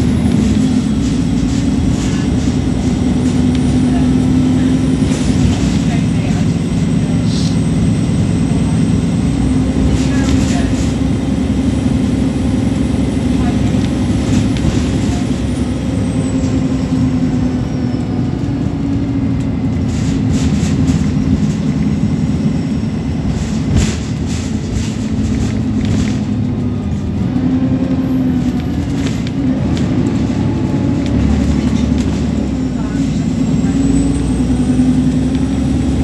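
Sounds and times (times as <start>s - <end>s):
bus diesel engine drone: 0.0s - 36.0s
road noise: 0.0s - 36.0s.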